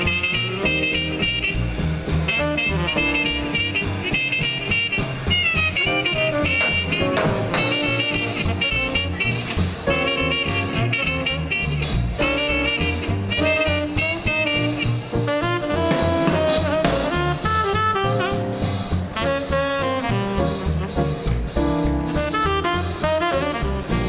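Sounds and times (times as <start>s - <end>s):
double bass: 0.0s - 24.0s
saxophone: 0.0s - 24.0s
swing band playing: 0.0s - 24.0s
trumpet: 0.0s - 24.0s.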